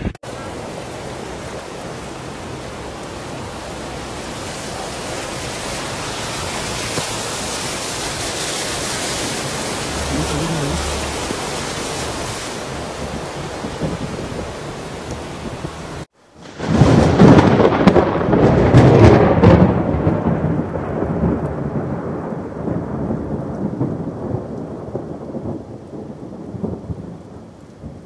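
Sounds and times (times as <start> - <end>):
steady rain: 0.0 - 28.0
thunderclap with rolling rumble: 0.0 - 28.0
wind: 0.0 - 28.0.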